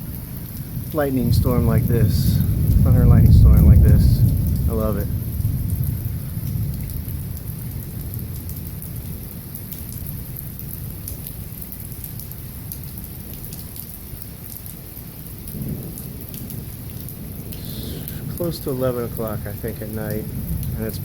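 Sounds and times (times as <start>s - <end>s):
low rumble of thunder: 0.0s - 21.0s
raindrops ticking on hard surfaces: 0.0s - 21.0s
steady rain: 0.0s - 21.0s.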